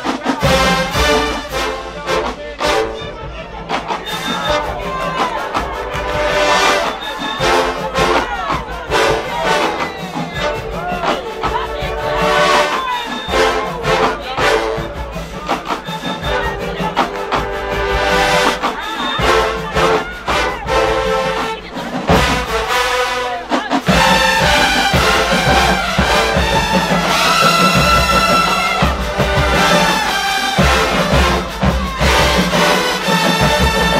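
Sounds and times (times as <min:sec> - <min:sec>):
marching band brass playing: 0:00.0 - 0:33.9
percussion hits: 0:00.0 - 0:33.9.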